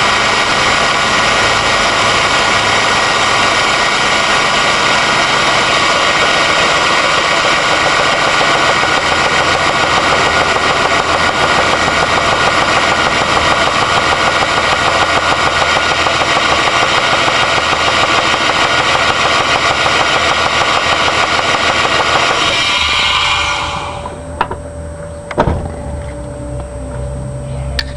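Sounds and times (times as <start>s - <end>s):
car engine knocking: 0.0s - 22.5s.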